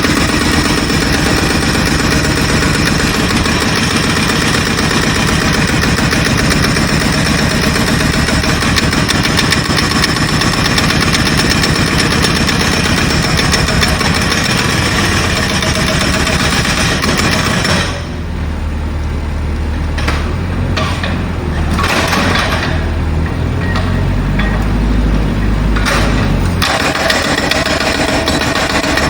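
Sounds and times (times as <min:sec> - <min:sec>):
jackhammer hammering: 0:00.0 - 0:18.2, 0:20.0 - 0:24.8, 0:25.5 - 0:29.0
engine drone: 0:00.0 - 0:29.0.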